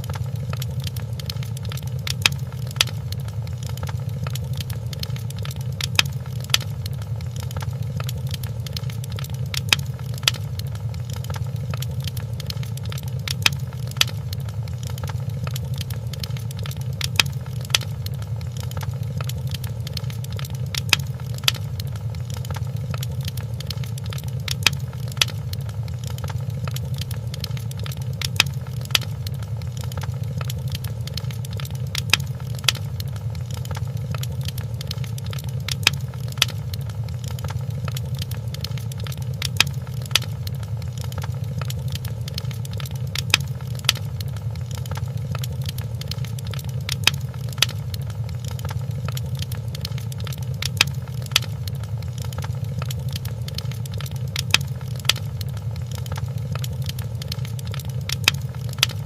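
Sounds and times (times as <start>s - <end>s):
low rumble of flames: 0.0s - 59.0s
wood fire crackling pops: 0.0s - 59.0s.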